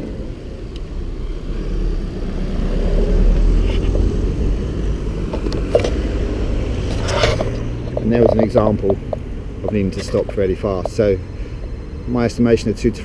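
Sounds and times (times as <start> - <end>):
electric board braking: 0.0 - 12.6.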